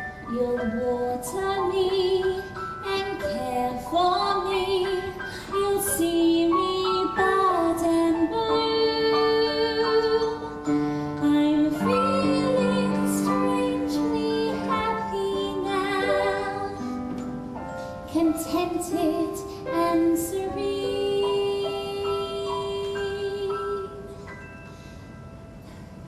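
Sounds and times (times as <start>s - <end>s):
musical accompaniment: 0.0s - 26.0s
woman singing a slow ballad: 0.3s - 17.0s, 18.0s - 24.2s.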